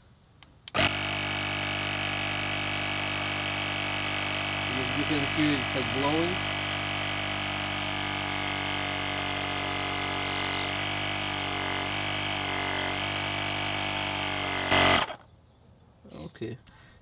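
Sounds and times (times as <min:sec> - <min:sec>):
electric air compressor running: 0:00.7 - 0:15.2.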